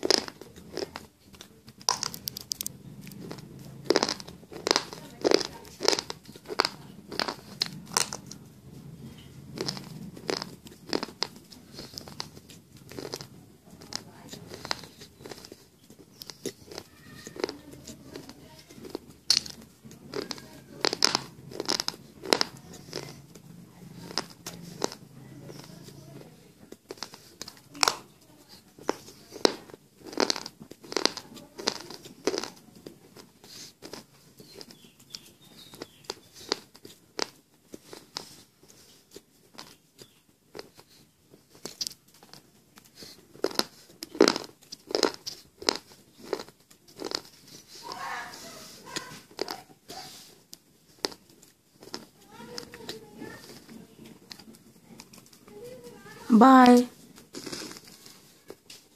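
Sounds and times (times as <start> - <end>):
chewing crunchy chips: 0.0 - 8.5, 9.2 - 56.3, 57.1 - 58.9.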